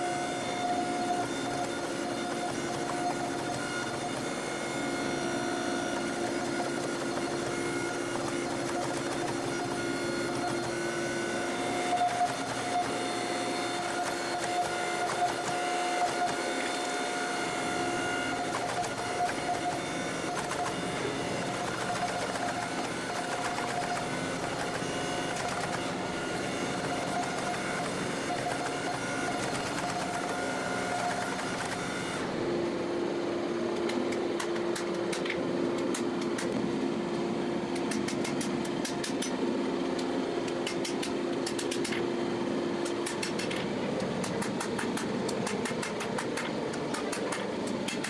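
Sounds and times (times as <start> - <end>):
hydraulic press hum and whine: 0.0 - 48.0.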